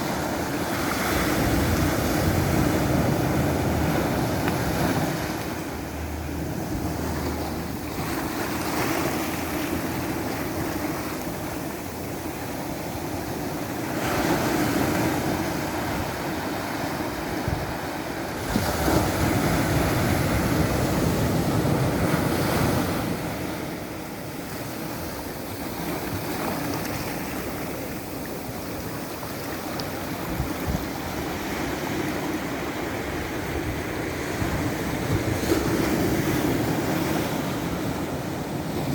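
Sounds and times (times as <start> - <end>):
ocean waves breaking on shore: 0.0 - 38.9
wind on microphone: 0.0 - 38.9.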